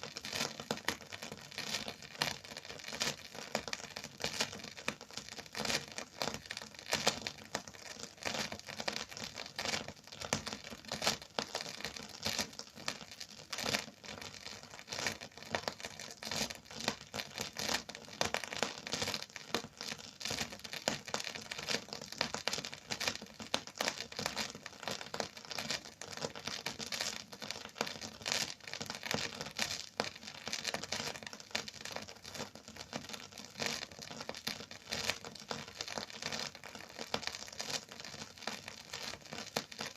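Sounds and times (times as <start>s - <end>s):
record surface crackle: 0.0s - 39.9s.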